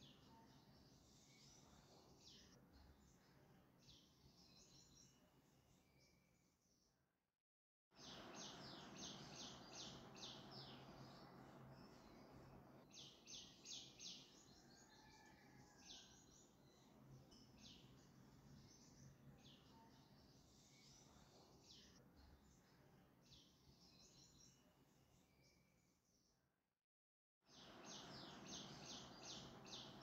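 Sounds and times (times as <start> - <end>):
faint bird chirping: 0.0 - 7.0, 8.0 - 26.4.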